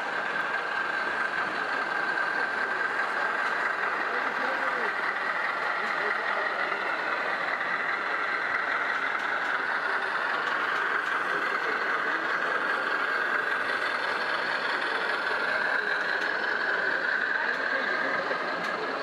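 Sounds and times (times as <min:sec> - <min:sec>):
toy truck engine sound from speaker: 0:00.0 - 0:19.0.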